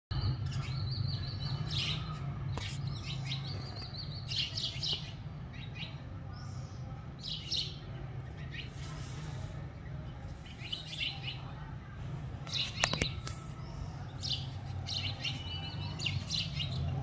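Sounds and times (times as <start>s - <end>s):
sparrows chirping: 0.1s - 17.0s.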